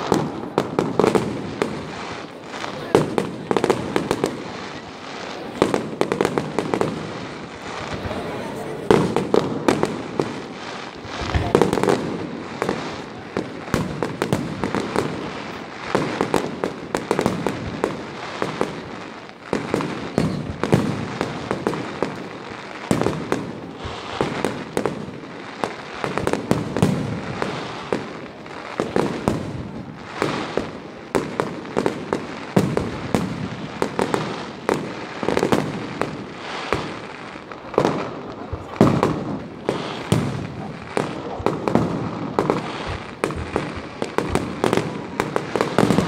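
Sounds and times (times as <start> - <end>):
fireworks bursting: 0.0 - 46.0.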